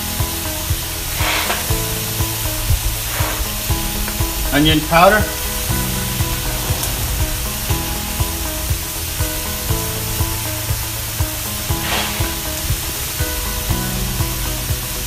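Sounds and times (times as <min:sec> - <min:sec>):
background music with low thumps: 0:00.0 - 0:15.0.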